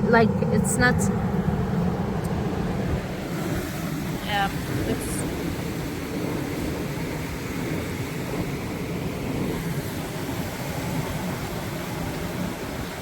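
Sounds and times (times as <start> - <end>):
sea: 0.0 - 13.0
wind: 0.0 - 13.0.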